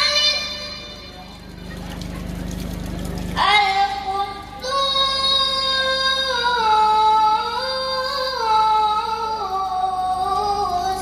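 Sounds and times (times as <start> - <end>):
boy reciting melodically: 0.0 - 1.2, 3.4 - 11.0.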